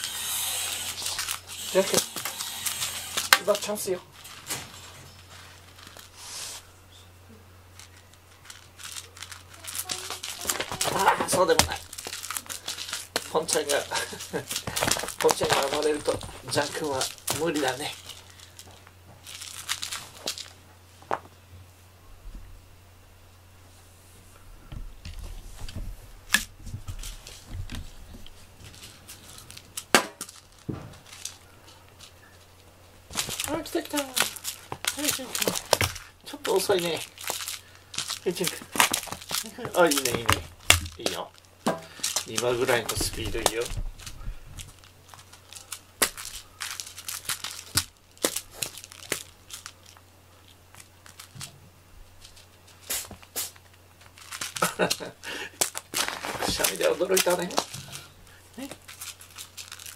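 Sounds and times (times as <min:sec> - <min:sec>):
wand toy rustling on foam mats: 0:00.0 - 0:22.4, 0:23.6 - 0:59.9.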